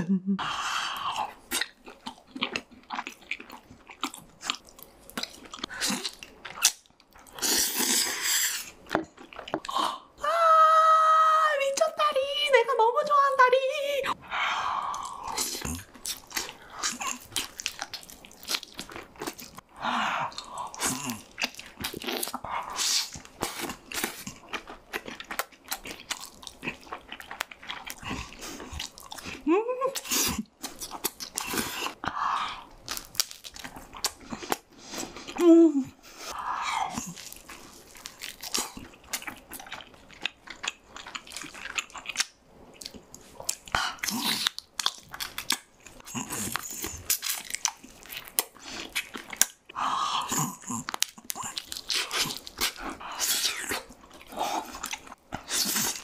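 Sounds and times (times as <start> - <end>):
biting and chewing: 1.0 - 9.8, 14.9 - 29.4, 30.0 - 32.1, 32.7 - 35.4, 36.1 - 56.0.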